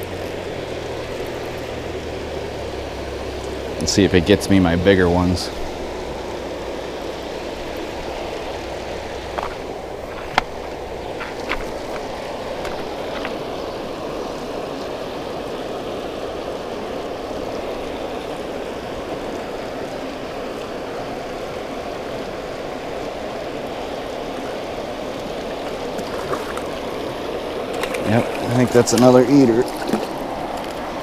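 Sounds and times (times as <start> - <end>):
water rushing through spillway: 0.0 - 31.0.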